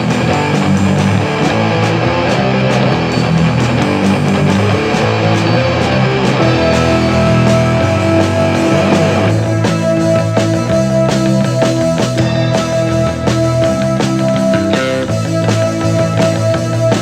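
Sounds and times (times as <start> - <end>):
rock band music with guitar: 0.0 - 17.0.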